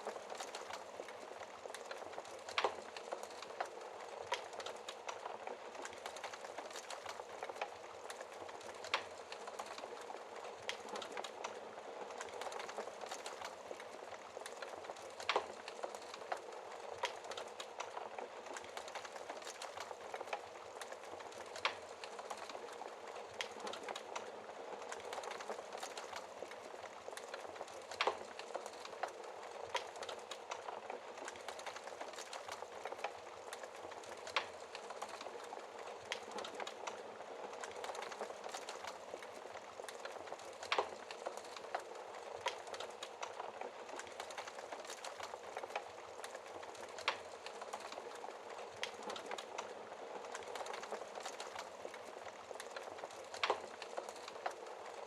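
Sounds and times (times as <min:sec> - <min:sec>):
logs crackling in fireplace: 0:00.0 - 0:55.0.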